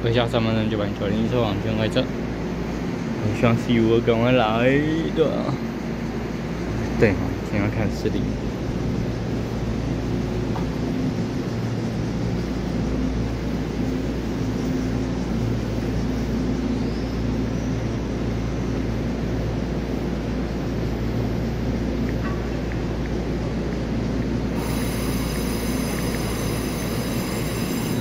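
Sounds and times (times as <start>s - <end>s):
electric train humming: 0.0s - 28.0s.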